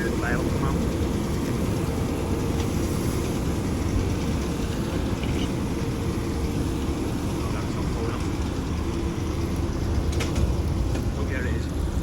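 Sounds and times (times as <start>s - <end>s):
tractor and baler droning: 0.0s - 12.0s.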